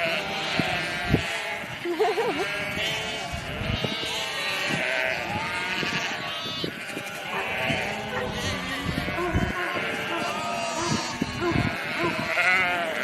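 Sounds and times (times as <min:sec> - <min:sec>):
sheep bleating: 0:00.0 - 0:13.0.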